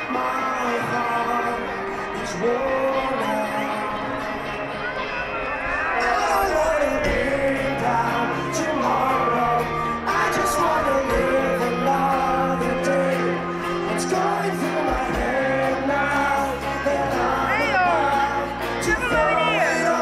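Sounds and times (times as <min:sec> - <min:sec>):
pop song over sound system: 0:00.0 - 0:20.0.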